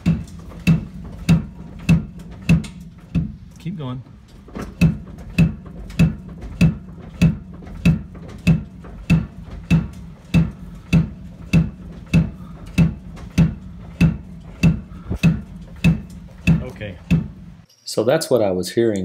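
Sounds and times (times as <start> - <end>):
truck shocks clunking: 0.0 - 17.7.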